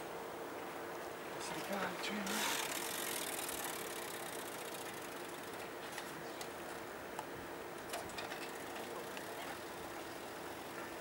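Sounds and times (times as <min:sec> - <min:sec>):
steady mechanical hum: 0:00.0 - 0:11.0
bicycle clicking: 0:01.6 - 0:11.0.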